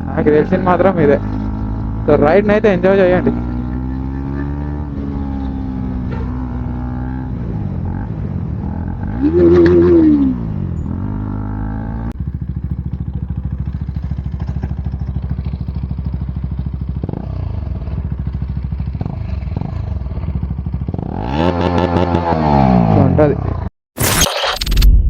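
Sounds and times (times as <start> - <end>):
motorcycle engine idling: 0.0 - 21.4
motorcycle engine revving: 0.0 - 23.7.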